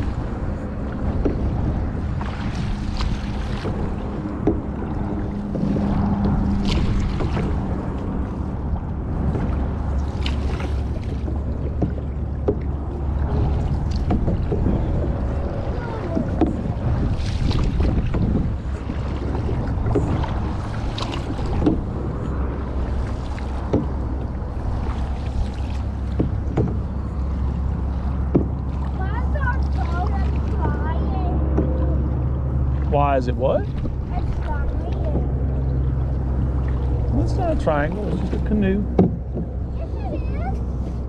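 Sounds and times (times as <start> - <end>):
paddle strokes swishing through water: 0.0 - 41.0
wind rumble on microphone: 0.0 - 41.0.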